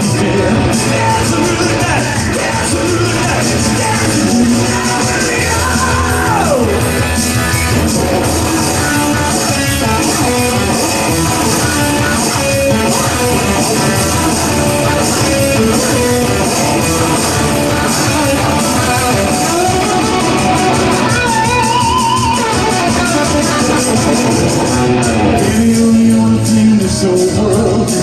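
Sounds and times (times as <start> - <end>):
live rock music with electric guitar: 0.0 - 28.0.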